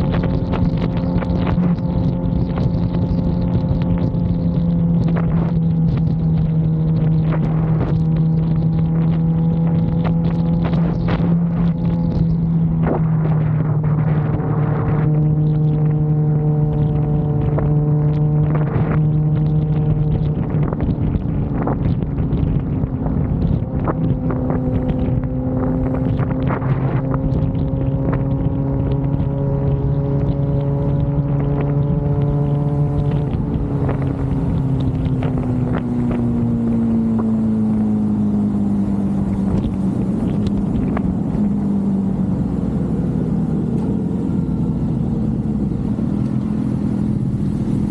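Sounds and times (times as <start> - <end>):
motorcycle engine cruising: 0.0 - 47.9
wind rush on microphone: 0.0 - 47.9.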